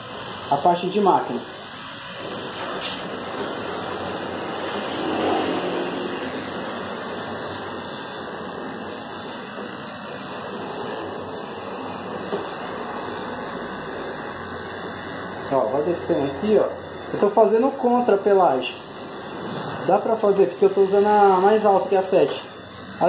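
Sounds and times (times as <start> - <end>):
electric clipper running: 0.0 - 23.0.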